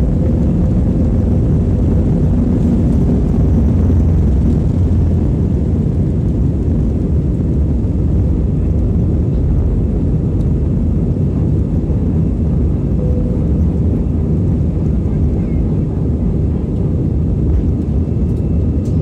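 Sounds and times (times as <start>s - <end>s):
jet rumble inside cabin: 0.0s - 19.0s.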